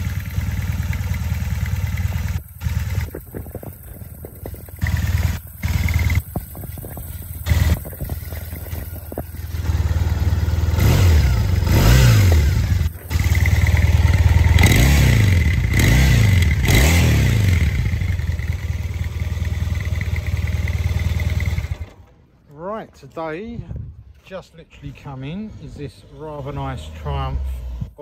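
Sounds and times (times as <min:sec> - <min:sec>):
motorcycle engine idling and revving: 0:00.0 - 0:22.2, 0:24.9 - 0:28.0.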